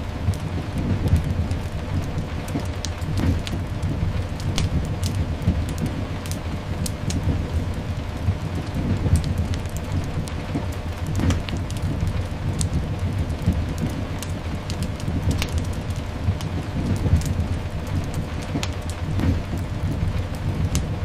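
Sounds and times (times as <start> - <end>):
fireplace crackling and popping: 0.0 - 21.0
low rumble: 0.0 - 21.0
steady rain: 0.0 - 21.0.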